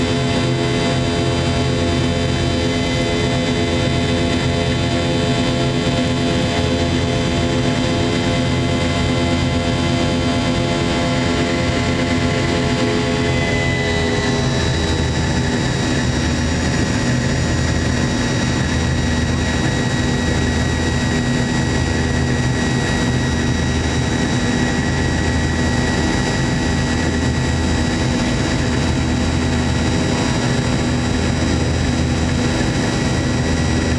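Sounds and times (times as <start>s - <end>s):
thin high engine whine: 0.0s - 33.9s.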